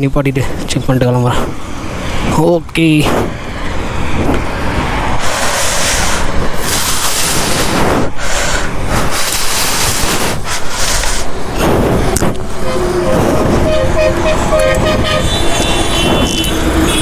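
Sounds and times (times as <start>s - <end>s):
motorcycle wind and road noise: 0.0s - 17.0s.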